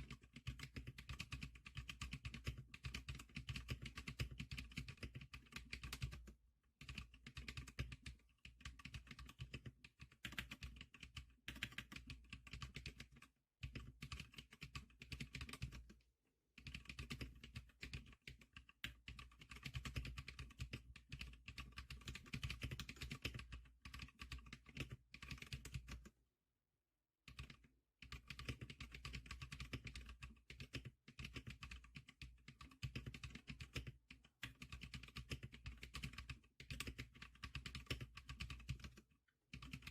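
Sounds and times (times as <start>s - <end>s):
keyboard typing clicks: 0.0s - 16.0s, 16.6s - 26.2s, 27.3s - 39.9s.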